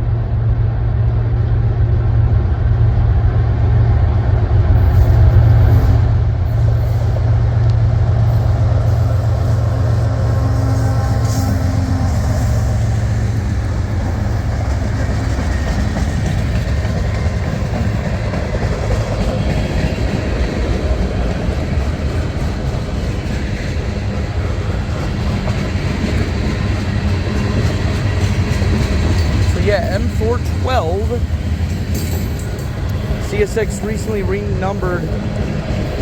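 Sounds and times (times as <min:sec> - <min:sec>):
freight train wheels rumbling on rails: 0:00.0 - 0:36.0.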